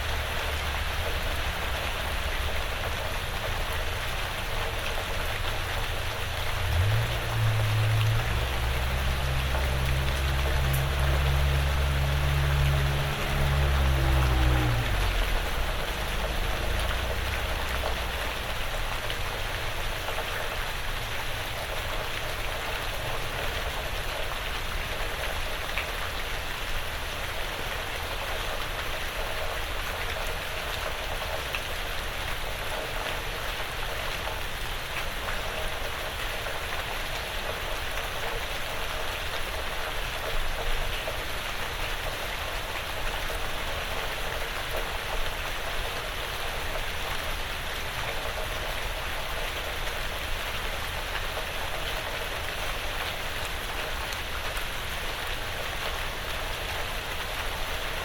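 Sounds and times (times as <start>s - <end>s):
light rain on a roof: 0.0s - 58.0s.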